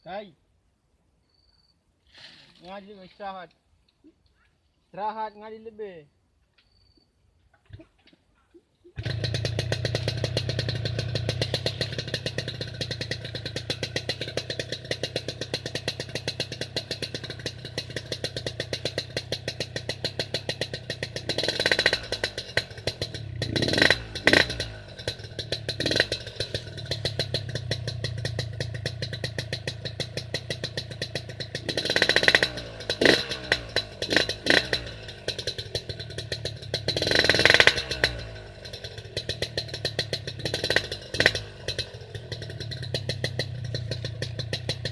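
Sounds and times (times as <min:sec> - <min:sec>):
motorcycle engine idling and revving: 0:09.0 - 0:44.9.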